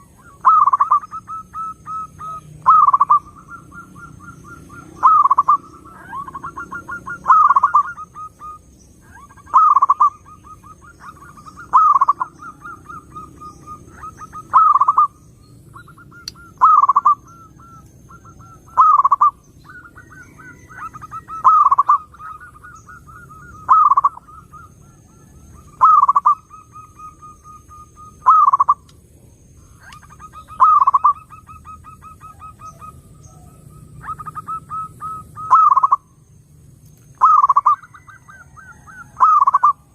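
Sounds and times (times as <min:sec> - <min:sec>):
dove cooing: 0:00.0 - 0:28.9, 0:29.6 - 0:36.2, 0:37.2 - 0:39.9.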